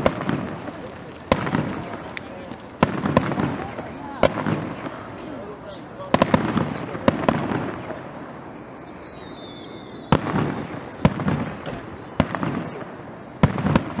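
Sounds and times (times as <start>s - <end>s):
fireworks bursting with sharp bangs: 0.0s - 14.0s
steady rumble of fireworks show: 0.0s - 14.0s.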